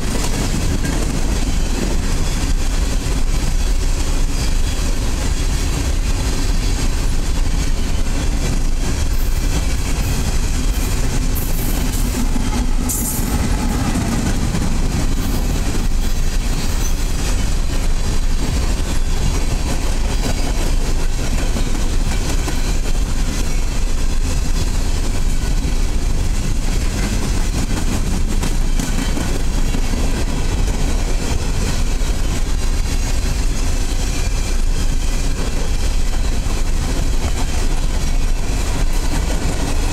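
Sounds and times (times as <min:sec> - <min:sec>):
steel wheels rumbling on rails: 0:00.0 - 0:39.9.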